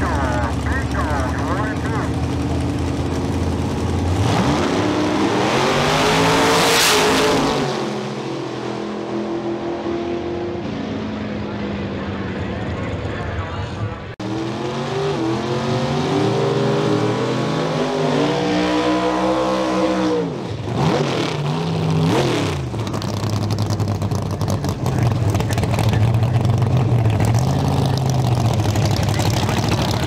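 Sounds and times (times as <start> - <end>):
drag race car engines revving: 0.0 - 30.0.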